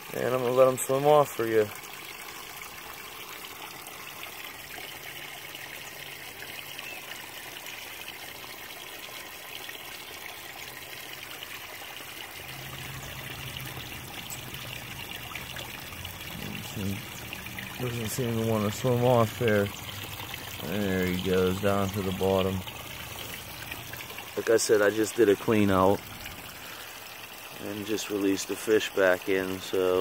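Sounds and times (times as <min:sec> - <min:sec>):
water trickling into pond: 0:00.0 - 0:30.0.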